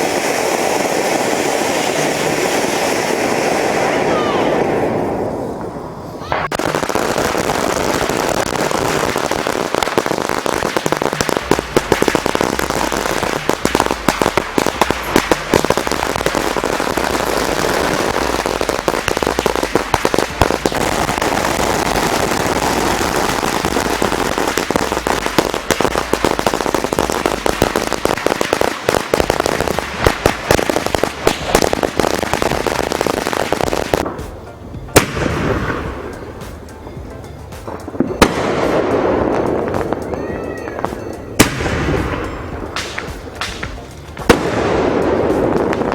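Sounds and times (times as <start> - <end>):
firecrackers going off: 0.0 - 45.9.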